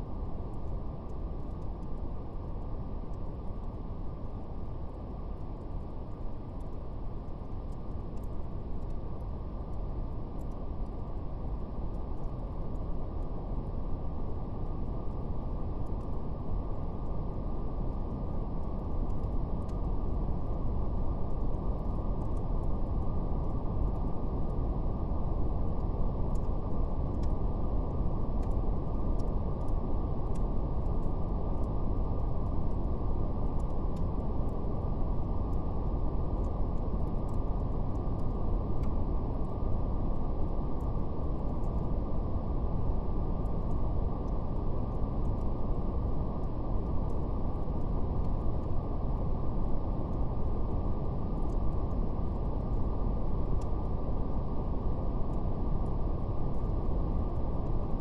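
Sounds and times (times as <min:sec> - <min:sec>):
brown noise rumble: 0:00.0 - 0:58.0.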